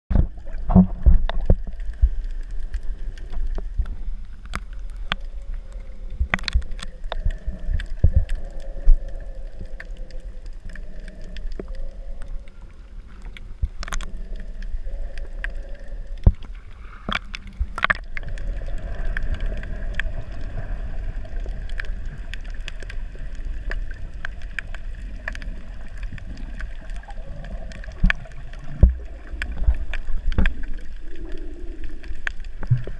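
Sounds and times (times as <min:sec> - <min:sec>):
low underwater rumble: 0:00.1 - 0:32.9.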